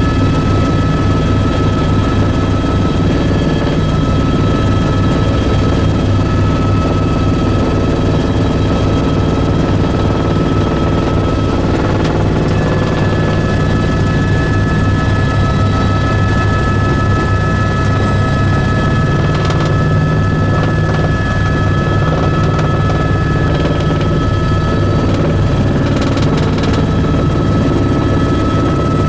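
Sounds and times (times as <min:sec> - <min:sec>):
helicopter rotor drone: 0:00.0 - 0:29.0
high engine whine: 0:00.0 - 0:29.0.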